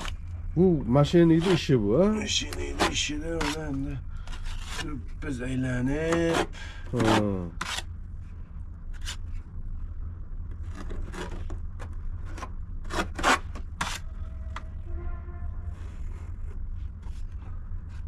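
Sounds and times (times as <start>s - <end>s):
steady low rumble: 0.0s - 13.0s, 13.6s - 18.0s.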